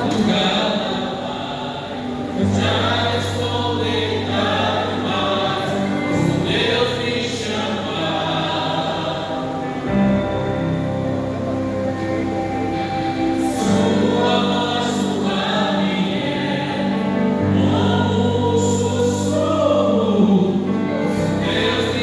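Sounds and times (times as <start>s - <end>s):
group singing a worship song: 0.0s - 10.3s, 13.4s - 22.0s.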